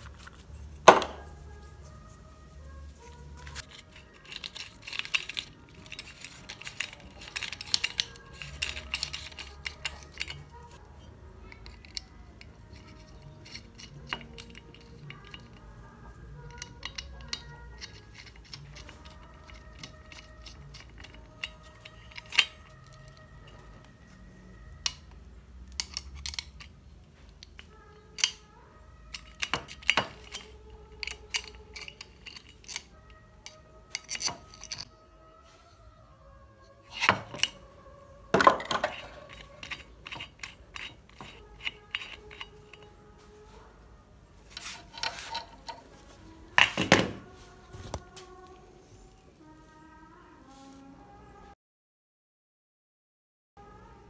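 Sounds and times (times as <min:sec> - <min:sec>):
quiet background music: 0:00.0 - 0:51.6, 0:53.6 - 0:54.0.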